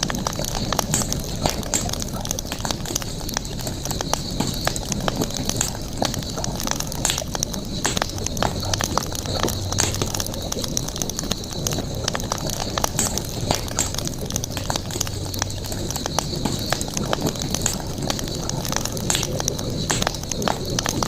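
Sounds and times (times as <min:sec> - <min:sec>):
campfire wood crackling: 0:00.0 - 0:21.0
high-pitched hiss of fire: 0:00.0 - 0:21.0.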